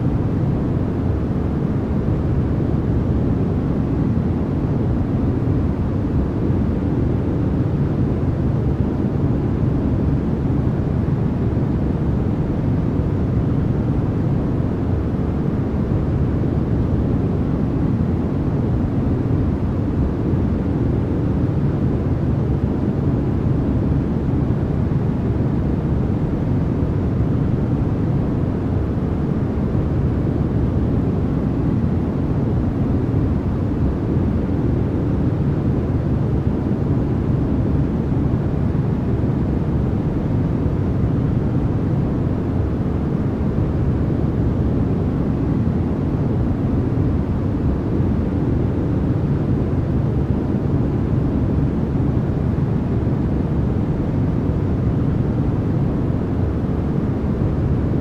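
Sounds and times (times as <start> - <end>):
deep white noise rush: 0.0 - 58.0.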